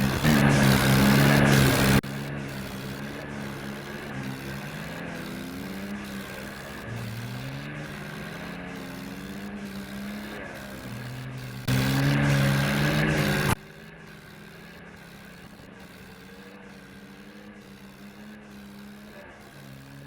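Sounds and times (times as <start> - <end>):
loud burst of engine noise: 0.0 - 20.0
tractor diesel engine running: 0.0 - 20.0.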